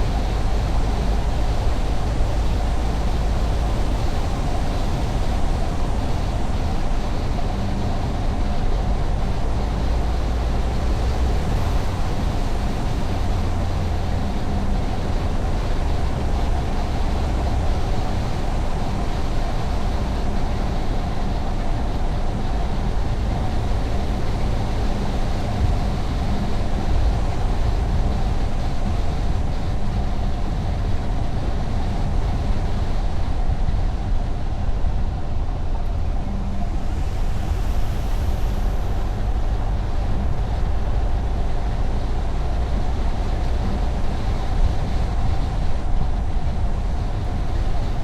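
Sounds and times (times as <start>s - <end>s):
car tyre and engine noise: 0.0s - 48.0s.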